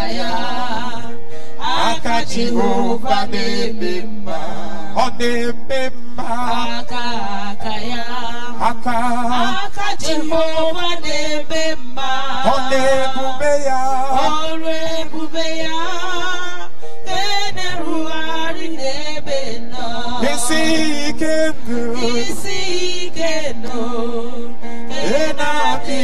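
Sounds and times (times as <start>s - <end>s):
worship voices singing: 0.0s - 26.0s.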